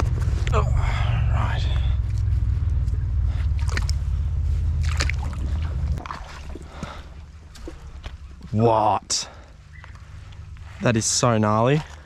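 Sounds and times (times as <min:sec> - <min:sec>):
wading through a shallow creek: 0:00.8 - 0:12.0.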